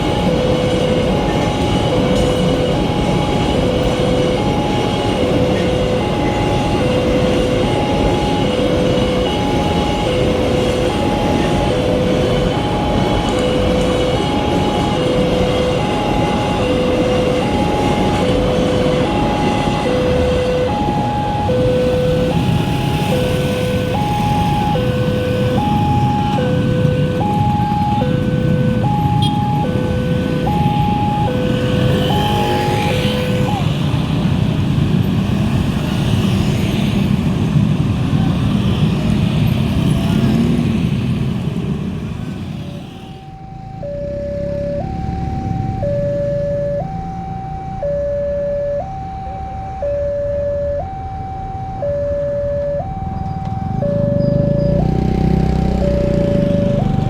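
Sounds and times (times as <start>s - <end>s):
level crossing two-tone siren: 0.0s - 36.9s, 42.3s - 57.0s
passing train rumble: 0.0s - 57.0s
road traffic: 0.0s - 57.0s.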